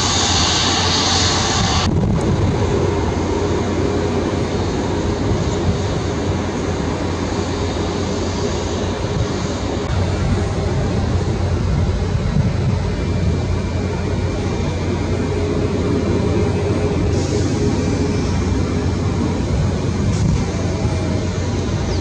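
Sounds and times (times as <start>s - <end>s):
distant jet engine rumble and hiss: 0.0s - 22.0s.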